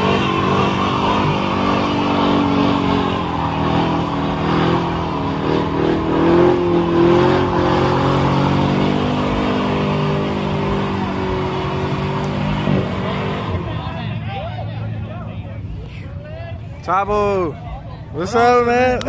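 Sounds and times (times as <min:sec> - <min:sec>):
car engine at high revs: 0:00.0 - 0:15.8
tyres screeching on asphalt: 0:00.0 - 0:17.6.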